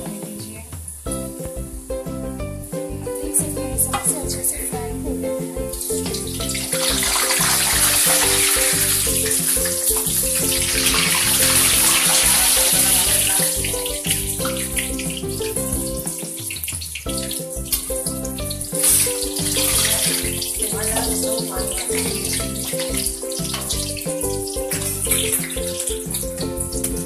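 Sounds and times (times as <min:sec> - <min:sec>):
background music: 0:00.0 - 0:27.0
deep-frying oil sizzle: 0:00.0 - 0:27.0.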